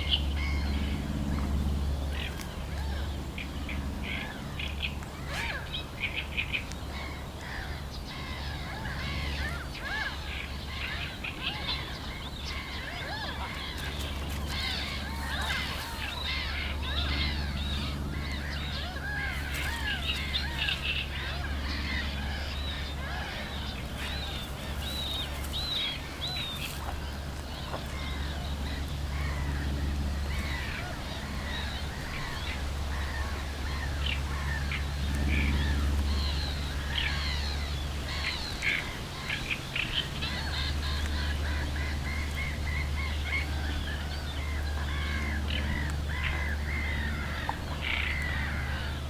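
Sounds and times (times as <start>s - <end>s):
birds chirping chorus: 0.0s - 49.0s.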